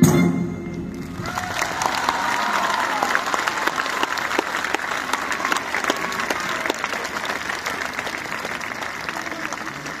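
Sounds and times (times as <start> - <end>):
large audience applauding: 0.9 - 10.0.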